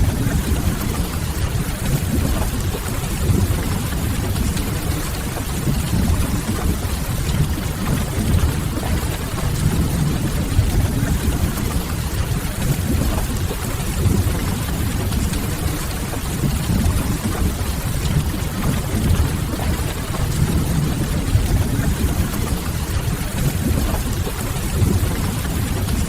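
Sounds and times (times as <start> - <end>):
rain noise: 0.0 - 26.0.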